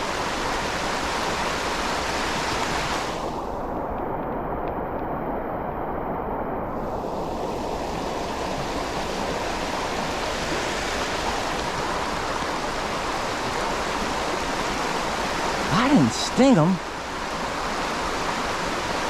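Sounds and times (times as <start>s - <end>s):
creek water running: 0.0s - 5.1s, 6.7s - 19.0s.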